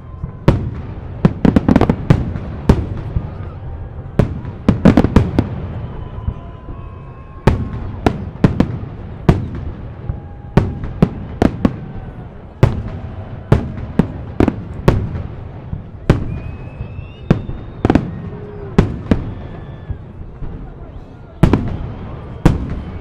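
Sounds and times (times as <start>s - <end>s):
fireworks bangs echoing: 0.0s - 23.0s.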